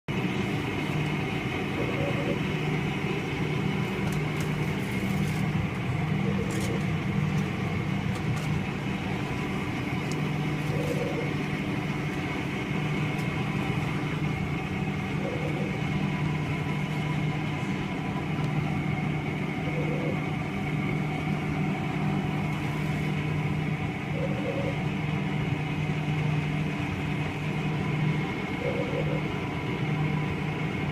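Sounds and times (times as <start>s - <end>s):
refrigeration machinery humming: 0.1s - 30.9s.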